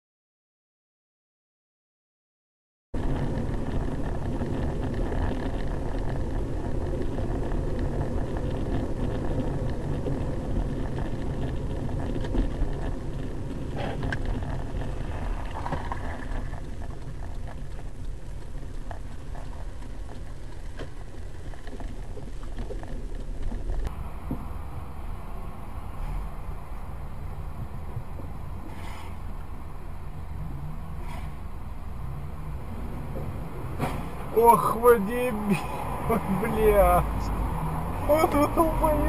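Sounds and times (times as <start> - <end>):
car road and engine noise: 3.0 - 39.0.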